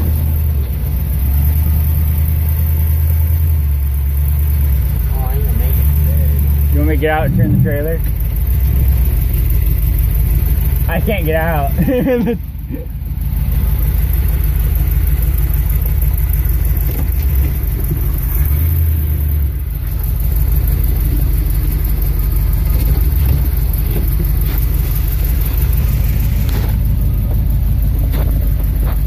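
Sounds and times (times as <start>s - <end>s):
van engine low rumble: 0.0s - 29.0s.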